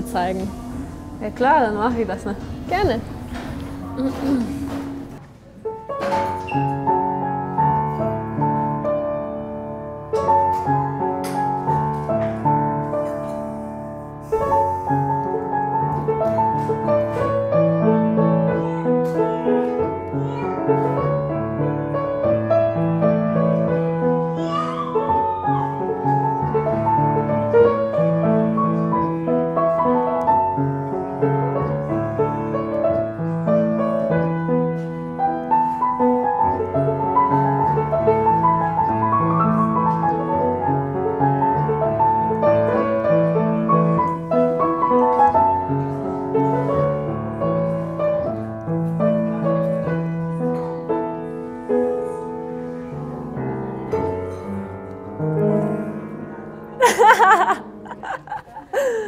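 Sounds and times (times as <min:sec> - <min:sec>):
grand piano melody: 0:00.0 - 0:59.0.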